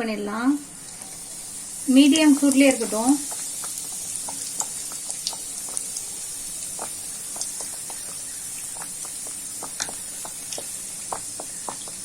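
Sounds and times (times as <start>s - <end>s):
food deep-frying in oil: 0.0s - 12.0s
small pops and crackles: 2.2s - 12.0s.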